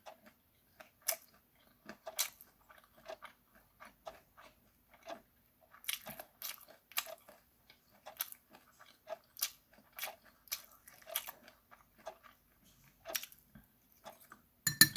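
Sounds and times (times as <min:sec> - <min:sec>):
crisp crunchy chewing: 0:00.0 - 0:14.4.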